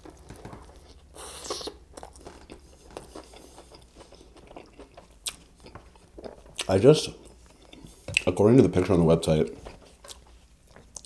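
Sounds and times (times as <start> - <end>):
chewing with wet clicks: 0.0 - 8.3, 10.0 - 11.0.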